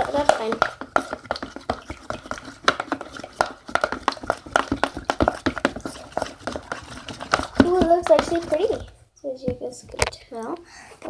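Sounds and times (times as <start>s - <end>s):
utensil tapping against bowl: 0.0s - 8.9s.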